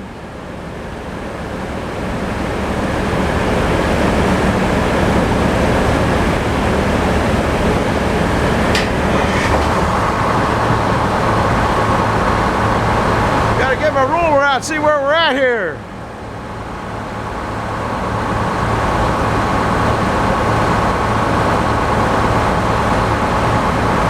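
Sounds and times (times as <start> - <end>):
tractor engine hum: 0.1 - 24.0.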